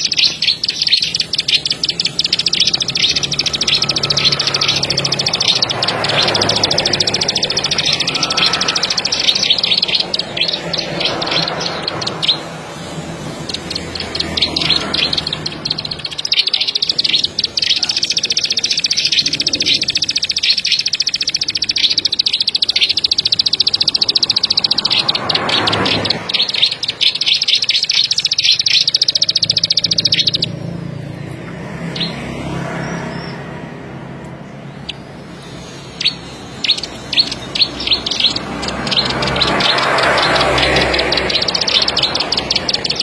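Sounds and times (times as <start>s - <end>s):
small bird trilling: 0.0s - 33.7s, 34.6s - 43.0s.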